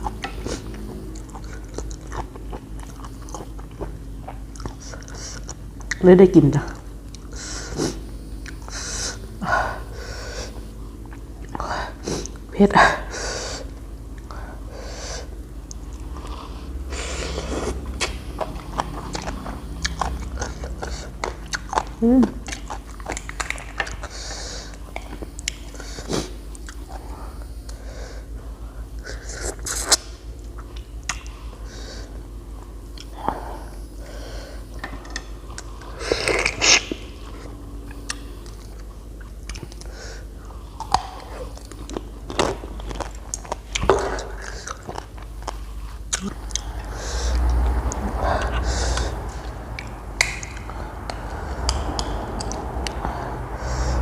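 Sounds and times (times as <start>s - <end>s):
person chewing food: 0.0s - 6.0s, 6.7s - 12.5s, 13.6s - 28.3s, 28.9s - 54.0s.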